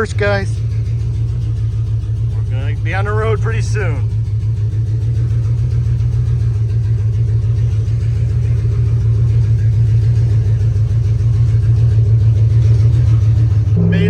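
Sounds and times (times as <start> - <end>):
loud truck engine drone: 0.0 - 14.0.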